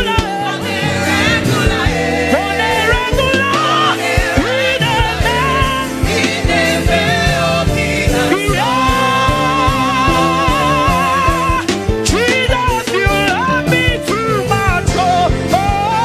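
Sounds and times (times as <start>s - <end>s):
band with drums and bass: 0.0s - 16.0s.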